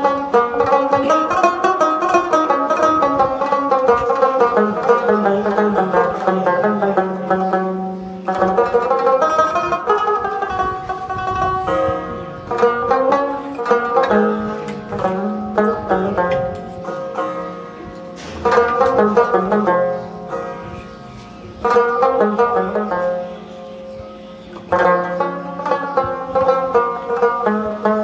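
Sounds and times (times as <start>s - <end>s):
plucked string instrument music: 0.0s - 28.0s.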